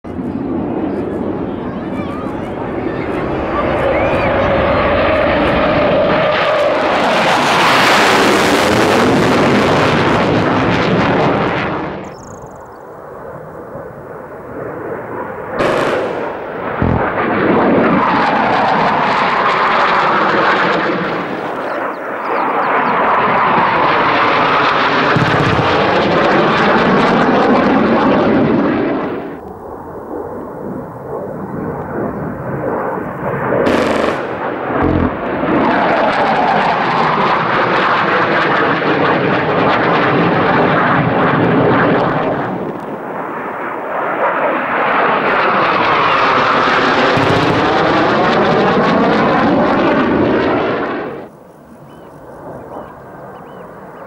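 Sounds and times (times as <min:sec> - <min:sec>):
jet roaring past: 0:00.1 - 0:54.0.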